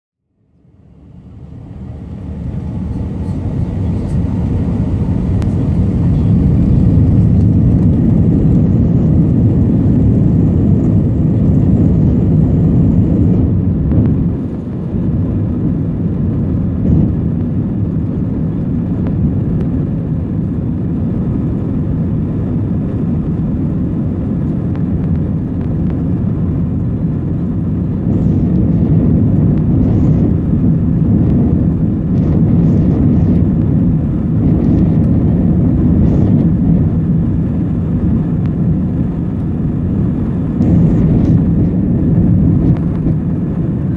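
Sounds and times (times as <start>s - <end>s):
jet engines and wheels rumbling: 0.2s - 43.9s.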